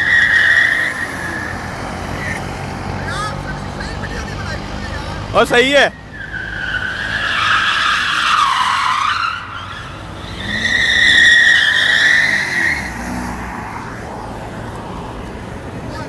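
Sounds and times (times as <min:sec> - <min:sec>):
car tyres squealing: 0:00.0 - 0:16.0.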